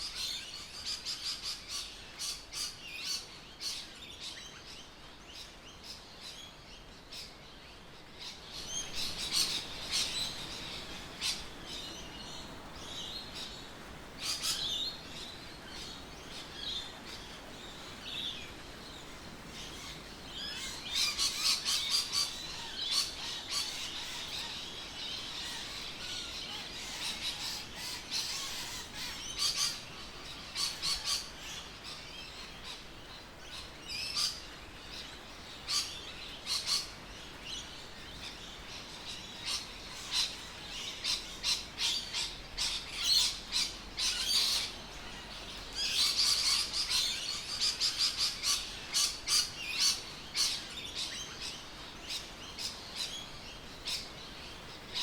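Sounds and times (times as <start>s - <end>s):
faint outdoor background: 0.0s - 55.0s
birds chirping: 8.1s - 55.0s.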